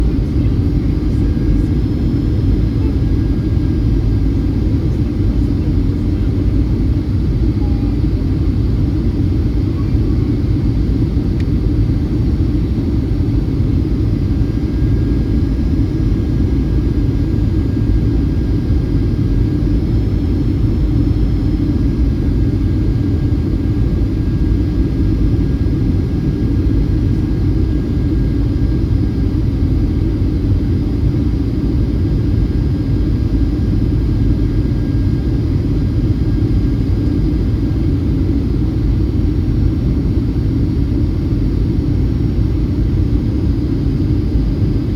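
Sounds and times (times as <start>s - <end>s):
faint steady whine: 0.0s - 44.9s
jet engine and airflow rumble: 0.0s - 44.9s.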